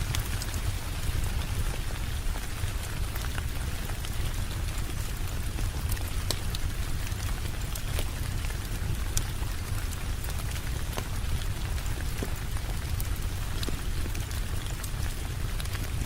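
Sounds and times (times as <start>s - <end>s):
heavy rain: 0.0s - 16.0s
wood fire crackling and popping: 0.0s - 16.0s.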